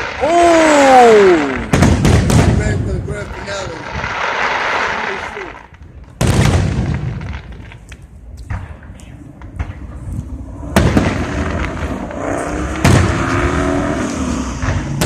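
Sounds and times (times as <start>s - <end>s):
firework booms with crackle: 0.0s - 15.0s.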